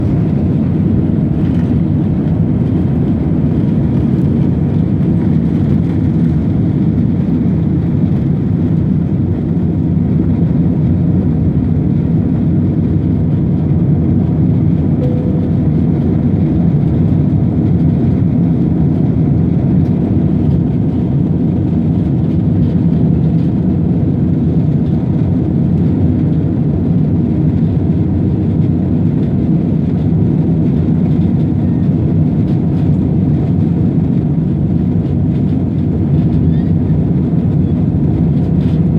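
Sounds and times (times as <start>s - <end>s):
airplane engine rumble: 0.0s - 38.9s.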